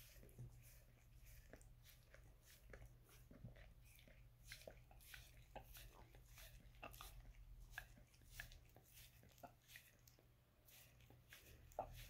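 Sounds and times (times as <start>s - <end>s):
dog licking feet: 0.0s - 12.0s.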